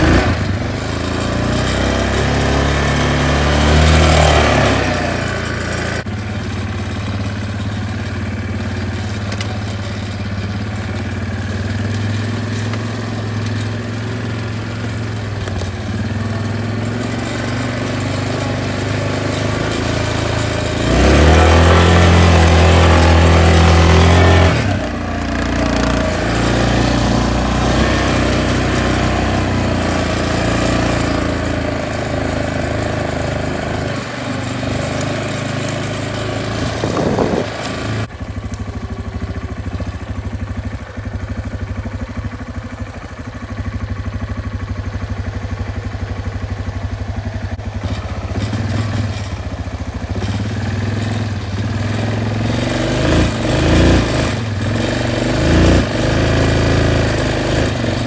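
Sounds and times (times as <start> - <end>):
small vehicle engine revving: 0.0 - 58.0.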